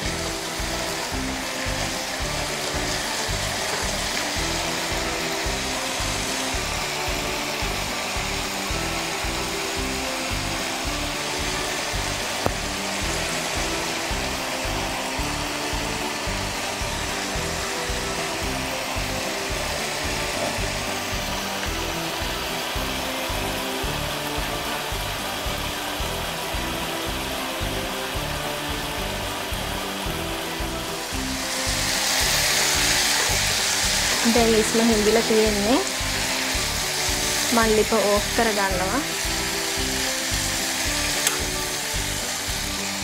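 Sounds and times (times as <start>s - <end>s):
background music with beat: 0.0s - 43.0s
curry bubbling and sizzling: 0.0s - 43.0s.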